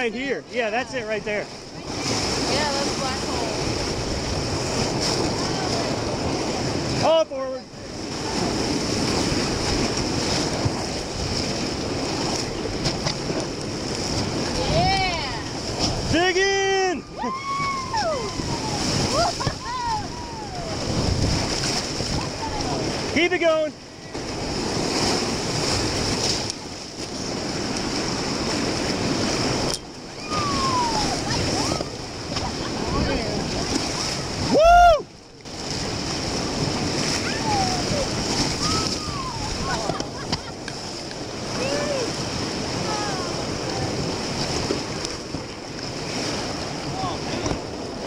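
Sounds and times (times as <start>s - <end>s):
wind buffeting microphone: 0.0s - 7.0s, 7.7s - 48.0s
whitewater rushing and splashing: 0.0s - 48.0s.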